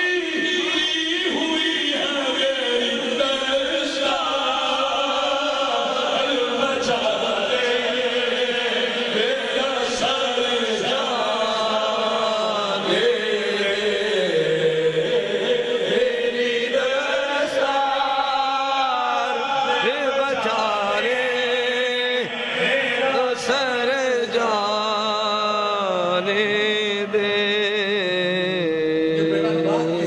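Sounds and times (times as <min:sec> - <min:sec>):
man singing into a microphone: 0:00.0 - 0:30.0.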